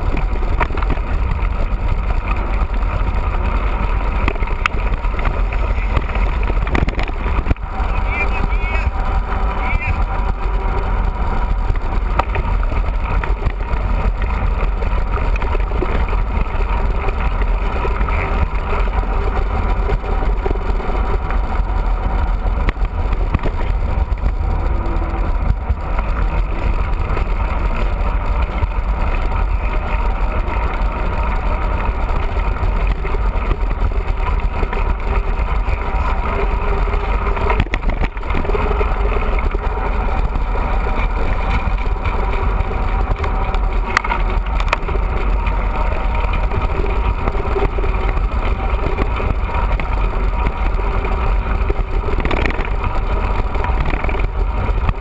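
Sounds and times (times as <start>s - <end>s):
bike rolling rumble: 0.0s - 55.0s.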